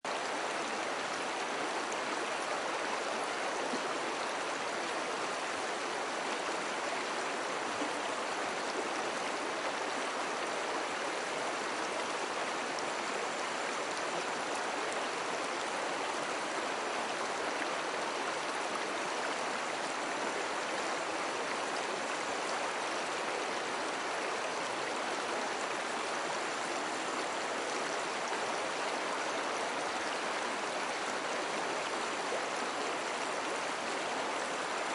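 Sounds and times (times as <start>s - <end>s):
river water flowing over stones: 0.1s - 34.9s.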